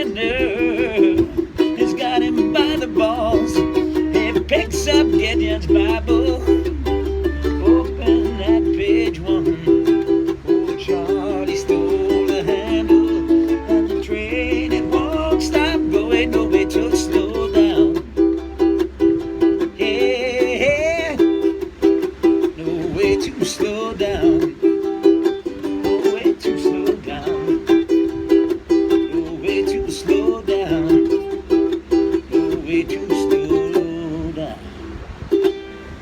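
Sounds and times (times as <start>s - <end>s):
ukulele playing: 0.0s - 36.0s.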